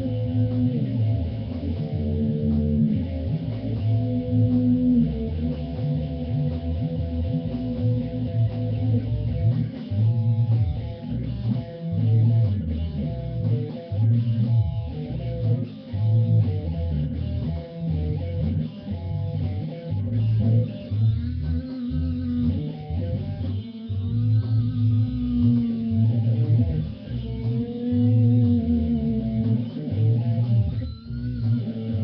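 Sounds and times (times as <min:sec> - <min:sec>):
electric guitar melody: 0:00.0 - 0:32.0
low bass line: 0:00.0 - 0:32.0.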